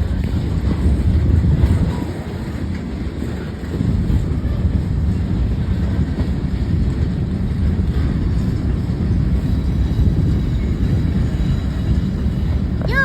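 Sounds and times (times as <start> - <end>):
freight train cars rolling past: 0.0 - 13.0.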